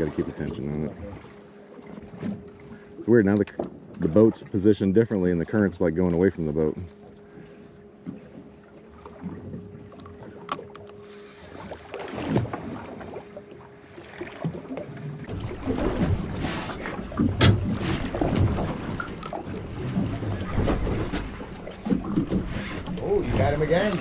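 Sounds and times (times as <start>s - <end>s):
water slapping boat hull: 0.0s - 24.0s.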